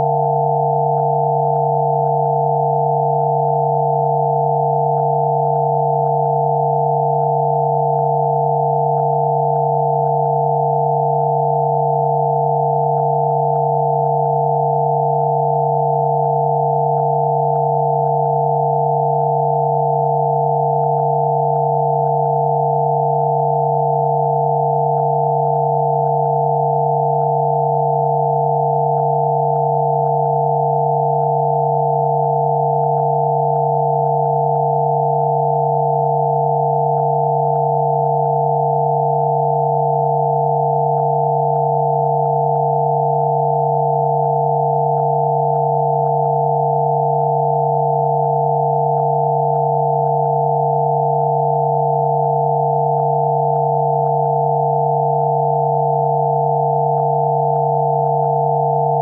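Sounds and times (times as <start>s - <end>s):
steady electronic sine tones: 0.0s - 59.0s.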